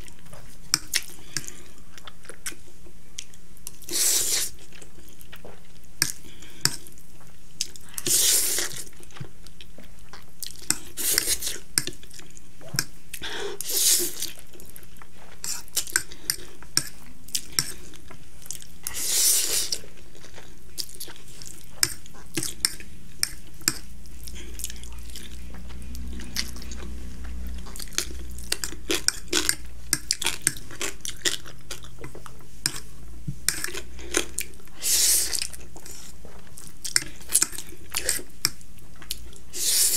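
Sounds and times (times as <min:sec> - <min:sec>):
chewing: 0:00.0 - 0:32.9, 0:33.5 - 0:39.9.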